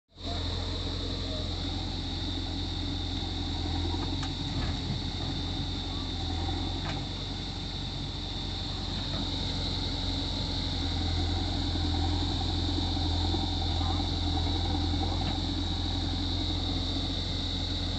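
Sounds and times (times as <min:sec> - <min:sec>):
diesel engines droning: 0:00.1 - 0:17.9.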